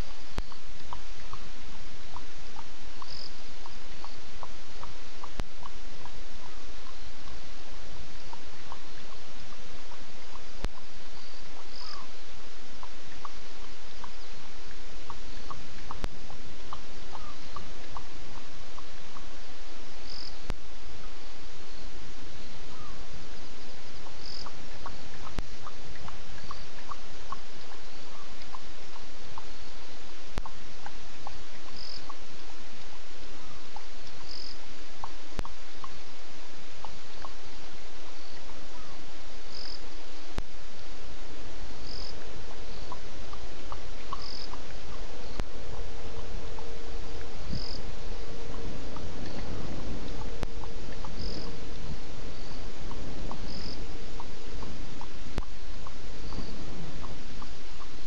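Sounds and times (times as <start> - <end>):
frogs and insects chirping: 0.0 - 58.0
steady hiss: 0.0 - 58.0
steady hum: 0.0 - 58.0.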